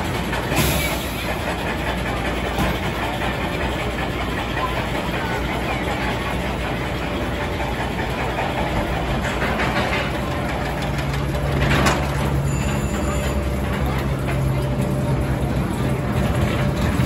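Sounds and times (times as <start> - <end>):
roller coaster rumble on track: 0.0 - 17.0.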